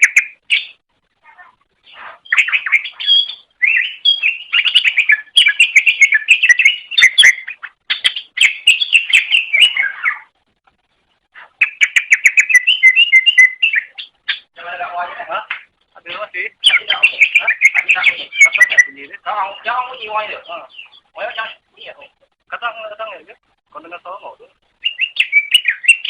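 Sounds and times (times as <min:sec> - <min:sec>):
bird singing chirps and warbles: 0:00.0 - 0:10.4, 0:11.4 - 0:15.2, 0:16.1 - 0:23.1, 0:23.8 - 0:26.0.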